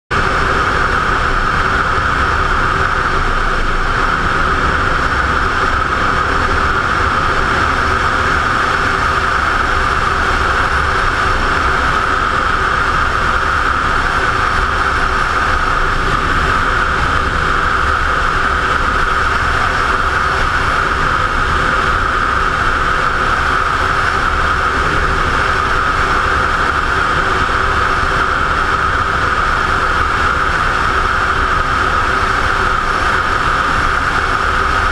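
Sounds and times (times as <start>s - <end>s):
wind rushing over camera: 0.1s - 34.9s.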